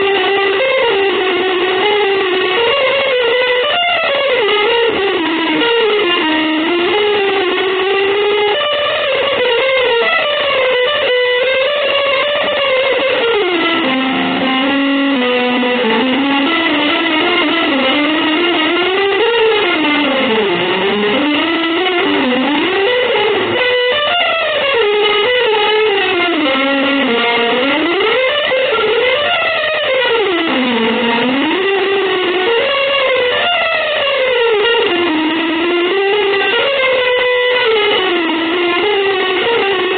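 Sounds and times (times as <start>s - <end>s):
electric guitar bending notes: 0.0s - 39.9s.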